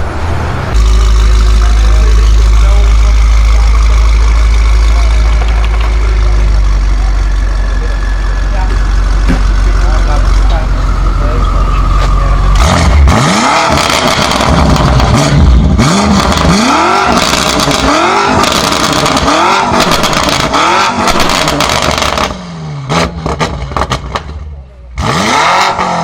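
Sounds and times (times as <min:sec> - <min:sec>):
car engine revving: 0:00.0 - 0:26.0
exhaust crackles and pops: 0:00.8 - 0:07.6, 0:08.6 - 0:22.4, 0:23.0 - 0:24.4.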